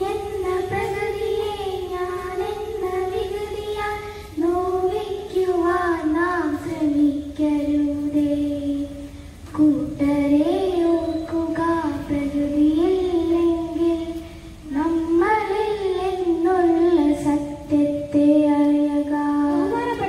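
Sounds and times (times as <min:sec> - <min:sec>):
child singing: 0:00.0 - 0:20.0.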